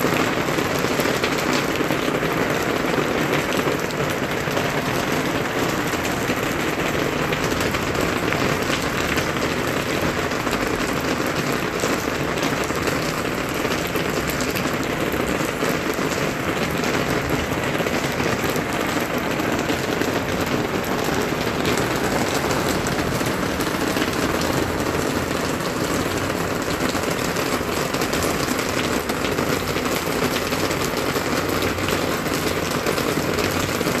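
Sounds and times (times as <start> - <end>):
heavy rain: 0.0 - 34.0.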